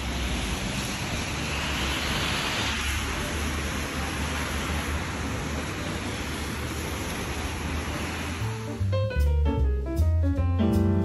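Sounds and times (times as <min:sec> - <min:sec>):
wet snow and rain falling: 0:00.0 - 0:08.9.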